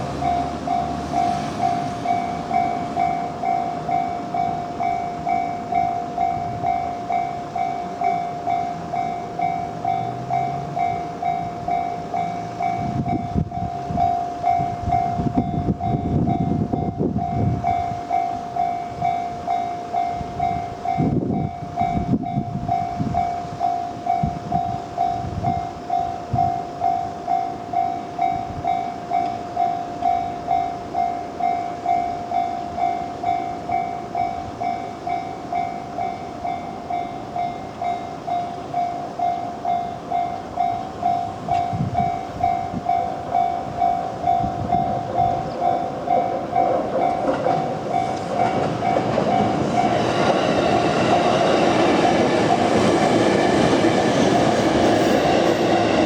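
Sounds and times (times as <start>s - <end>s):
level-crossing warning bell ringing: 0.0s - 56.0s
train rumbling on rails: 0.0s - 56.0s.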